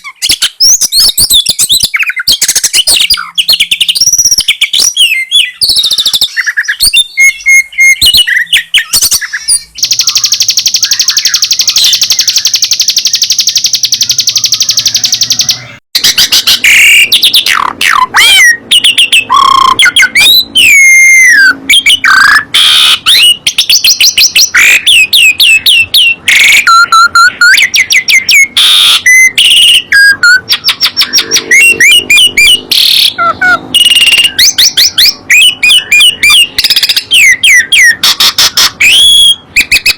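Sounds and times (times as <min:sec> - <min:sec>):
bird whistles and chirps: 0:00.0 - 0:39.9
buzzy bird trill: 0:00.0 - 0:39.9.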